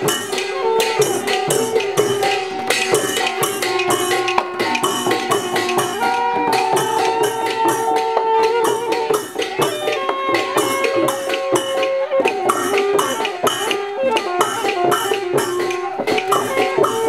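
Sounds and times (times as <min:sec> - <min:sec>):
music with percussion beat: 0:00.0 - 0:17.0.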